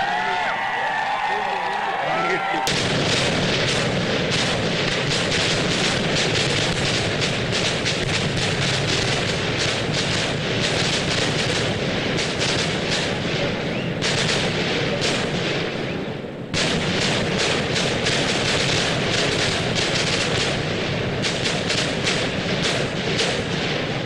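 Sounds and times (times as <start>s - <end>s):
firecrackers banging: 0.0s - 24.0s.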